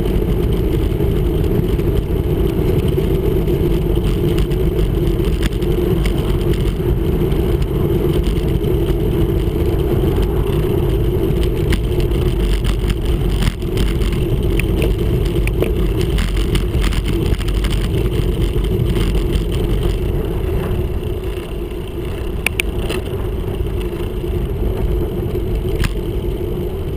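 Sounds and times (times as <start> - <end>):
wind and road rumble: 0.0 - 26.9.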